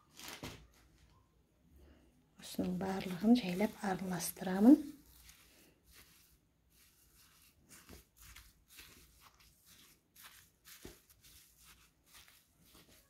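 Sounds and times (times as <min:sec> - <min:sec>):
stick stirring potting mix: 0:02.4 - 0:13.0.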